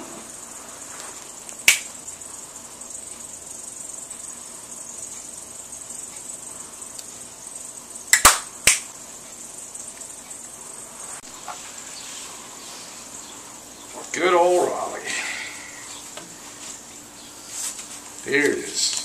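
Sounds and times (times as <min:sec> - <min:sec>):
high steady hiss: 0:00.0 - 0:19.0.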